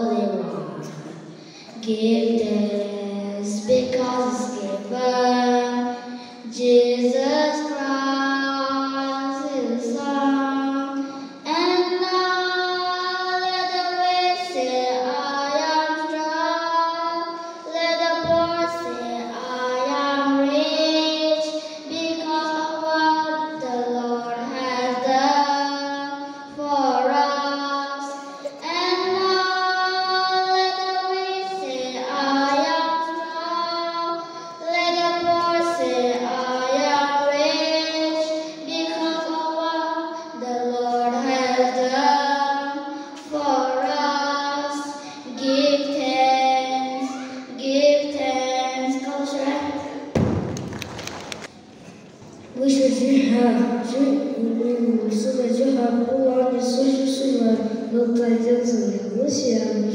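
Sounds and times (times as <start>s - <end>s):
girl singing into a microphone: 0.0s - 50.2s, 52.5s - 59.9s.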